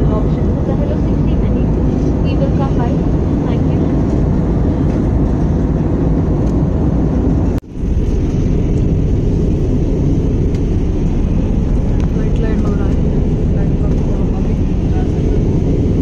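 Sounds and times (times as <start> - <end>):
airliner cabin engine rush: 0.0 - 16.0.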